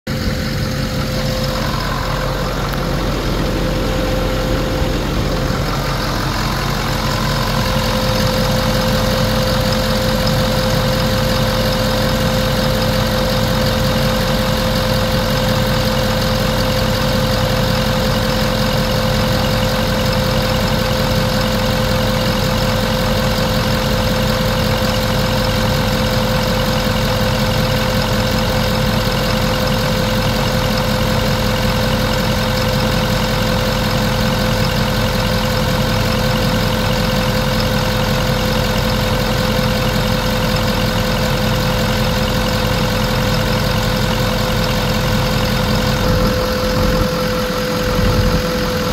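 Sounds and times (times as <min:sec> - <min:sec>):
truck engine idling: 0:00.0 - 0:48.9
steady engine whine: 0:00.1 - 0:48.9.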